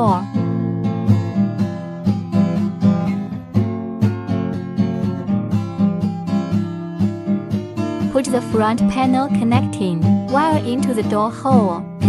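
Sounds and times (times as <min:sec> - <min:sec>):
acoustic guitar plucking and strumming: 0:00.0 - 0:12.0.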